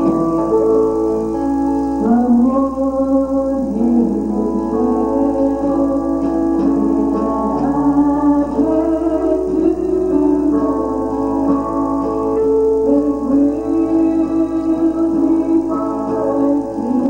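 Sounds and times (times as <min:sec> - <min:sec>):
gospel piano music: 0:00.0 - 0:17.0
person singing: 0:00.0 - 0:17.0.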